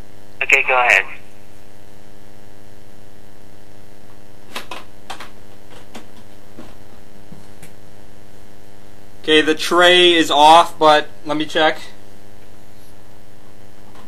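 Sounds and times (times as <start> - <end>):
mains hum on phone line: 0.0 - 14.0.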